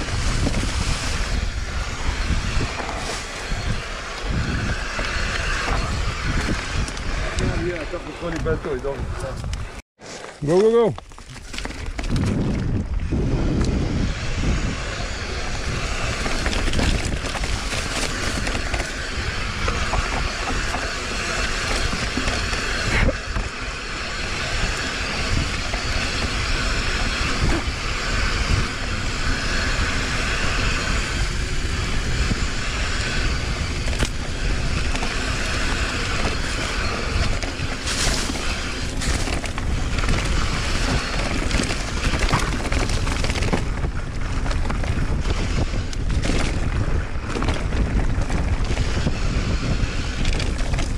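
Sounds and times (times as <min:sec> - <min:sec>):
bike rattling over bumps: 0:00.0 - 0:09.8, 0:10.4 - 0:50.9
wind rumble on microphone: 0:00.0 - 0:09.8, 0:10.8 - 0:50.9
bike tyres rolling on dirt: 0:00.0 - 0:50.9.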